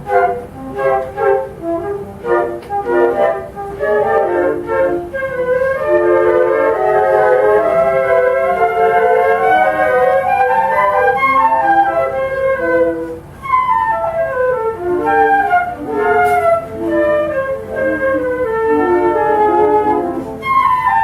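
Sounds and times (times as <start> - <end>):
flute ensemble playing: 0.0 - 21.0.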